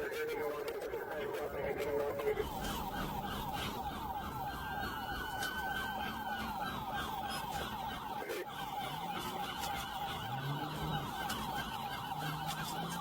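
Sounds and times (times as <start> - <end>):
police siren yelping: 0.0 - 13.0
road noise at speed: 1.3 - 13.0.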